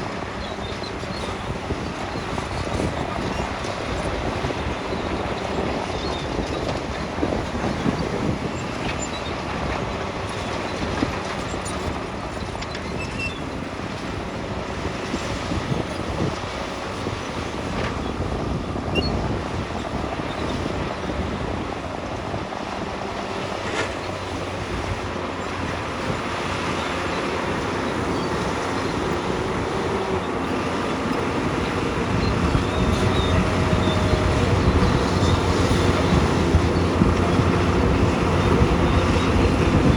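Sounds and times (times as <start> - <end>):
construction machine diesel engine: 0.0 - 39.9.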